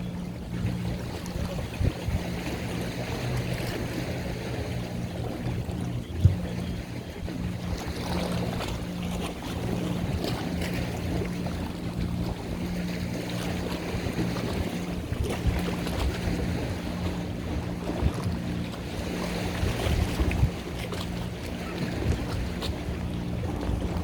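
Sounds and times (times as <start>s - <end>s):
boat engine humming: 0.0s - 24.0s
water splashing: 0.0s - 24.0s
wind buffeting microphone: 0.0s - 24.0s.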